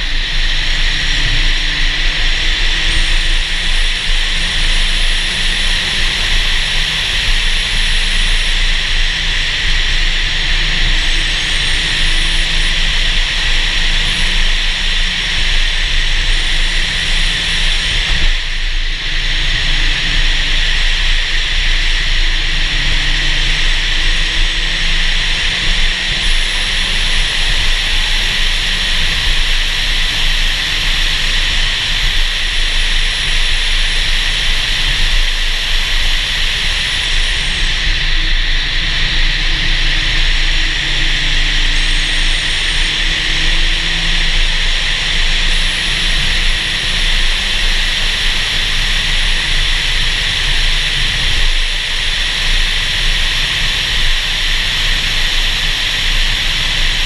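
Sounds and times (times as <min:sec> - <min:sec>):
car engine drone: 0:00.0 - 0:57.0
thin high whine: 0:00.0 - 0:57.0
wind rushing over microphone: 0:00.0 - 0:57.0.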